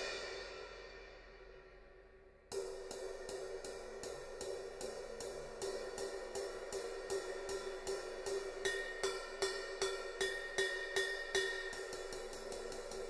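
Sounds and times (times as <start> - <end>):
ride cymbal played with stick: 0.0 - 13.0.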